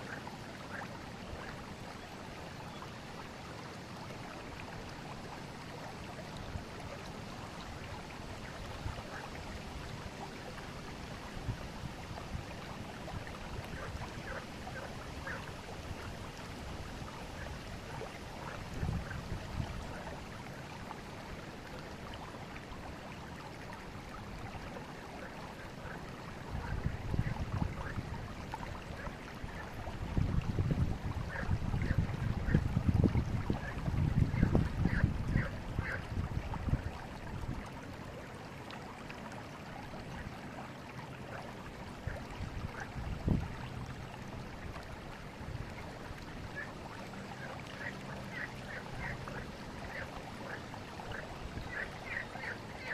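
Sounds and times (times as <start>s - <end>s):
river babbling over stones: 0.0s - 52.9s.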